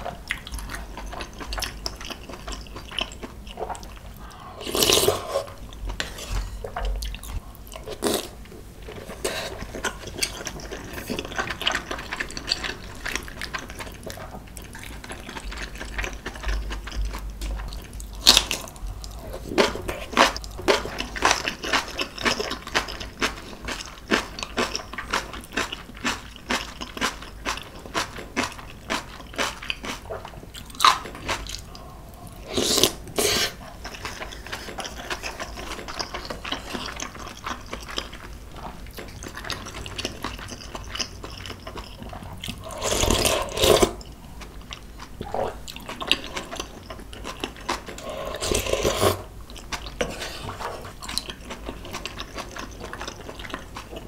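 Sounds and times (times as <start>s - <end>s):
soft chewing: 0.0s - 54.0s
crunching and chewing cabbage: 4.7s - 31.9s, 32.5s - 54.0s.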